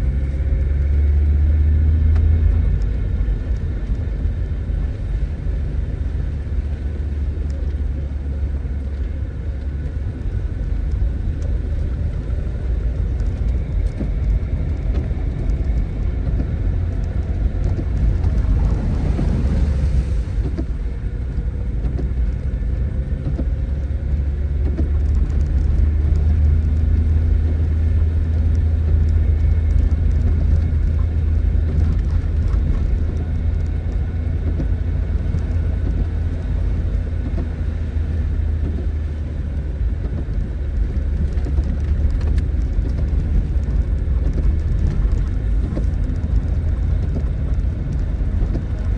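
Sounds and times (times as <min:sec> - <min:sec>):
car engine idling: 0:00.0 - 0:48.9
rain falling: 0:00.0 - 0:48.9.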